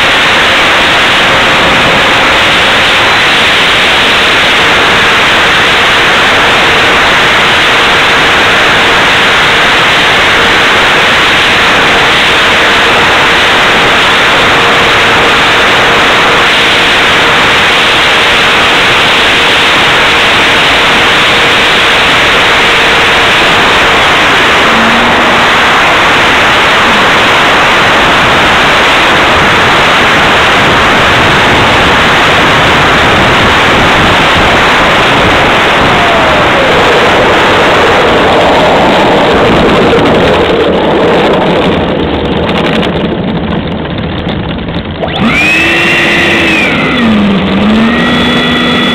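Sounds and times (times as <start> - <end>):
ducted fan and wind hiss: 0.0 - 48.9.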